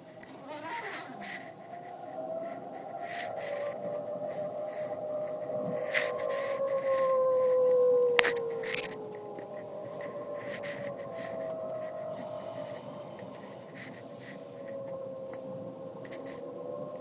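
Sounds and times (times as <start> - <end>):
steady noise: 0.0 - 17.0
two-tone wavering whine: 0.0 - 17.0.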